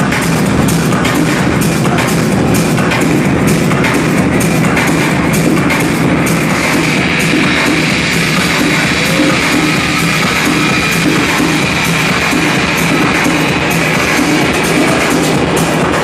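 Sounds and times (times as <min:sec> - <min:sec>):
loud techno music: 0:00.0 - 0:16.0.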